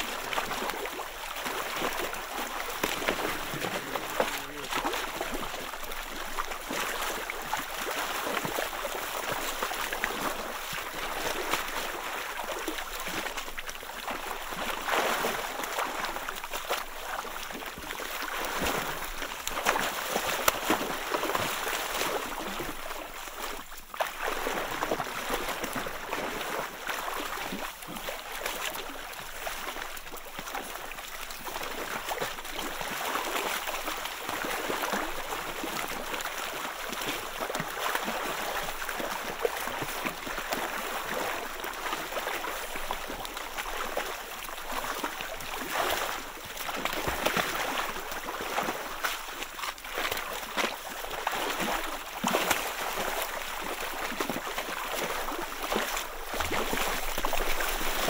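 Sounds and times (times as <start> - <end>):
penguins splashing: 0.0 - 30.7, 31.5 - 58.0
gurgling water: 0.0 - 58.0.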